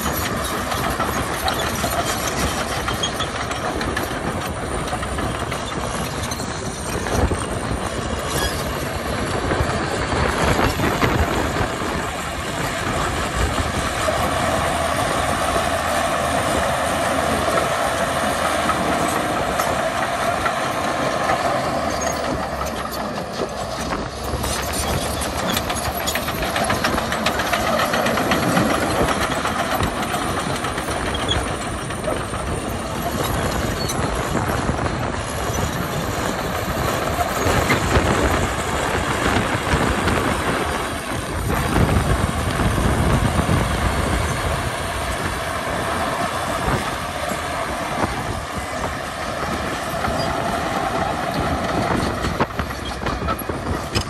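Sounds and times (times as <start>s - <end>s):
bulldozer diesel engine under load: 0.0s - 54.0s
steel tracks clattering: 0.0s - 54.0s.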